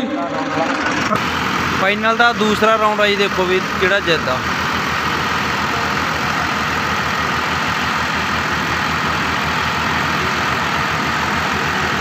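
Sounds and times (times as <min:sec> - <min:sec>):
tractor diesel engines straining: 0:00.0 - 0:12.0.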